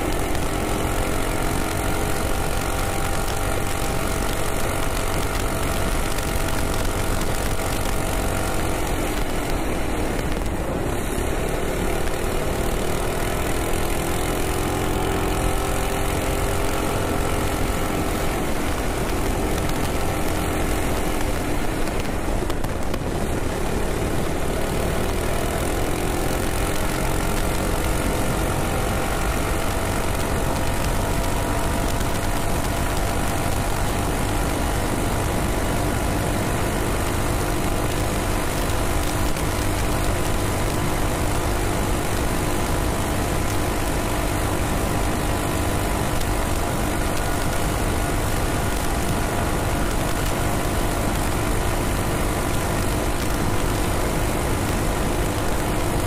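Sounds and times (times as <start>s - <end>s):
minibike engine at full throttle: 0.0s - 56.0s.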